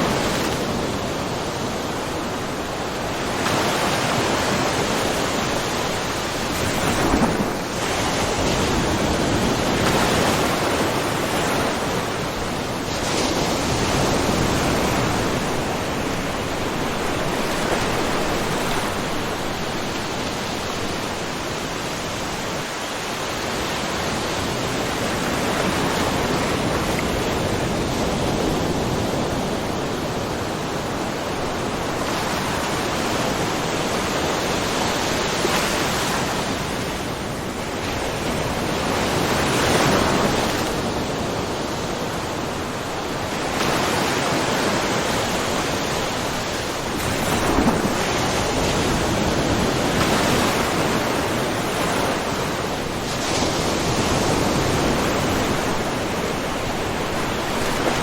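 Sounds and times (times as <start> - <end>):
ocean waves splashing on rocks: 0.0 - 58.0.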